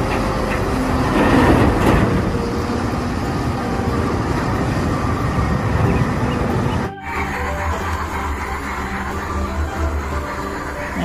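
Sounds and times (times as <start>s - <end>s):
wheel loader diesel engine: 0.0s - 11.0s.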